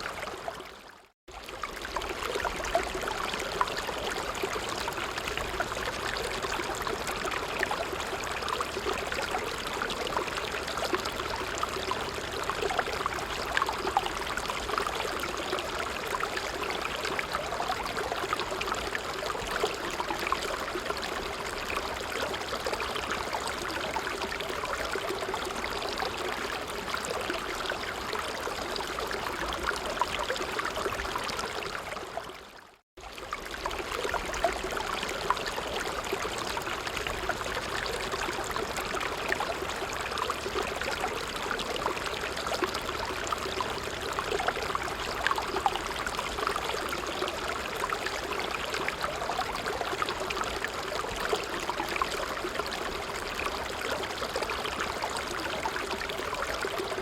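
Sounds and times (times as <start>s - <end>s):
creek water babbling: 0.0s - 57.0s.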